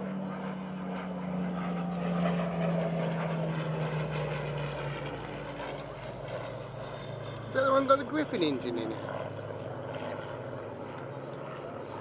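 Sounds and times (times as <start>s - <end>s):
piston aircraft engine flying past: 0.0s - 12.0s.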